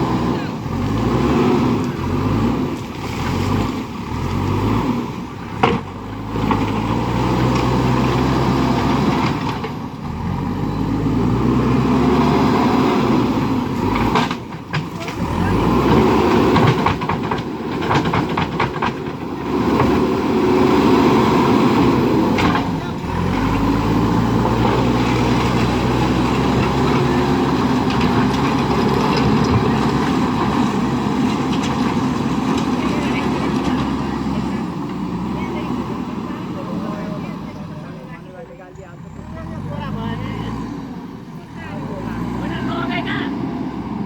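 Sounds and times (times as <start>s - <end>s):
diesel engine revving: 0.0s - 44.0s.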